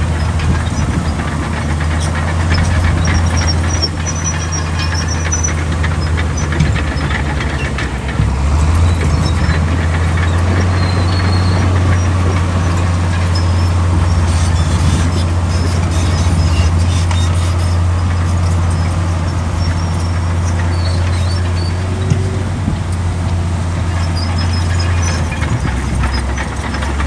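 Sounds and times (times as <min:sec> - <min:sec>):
metallic squeaks and clicks: 0:00.0 - 0:23.0, 0:23.8 - 0:27.0
diesel machinery engine hum: 0:00.0 - 0:27.0.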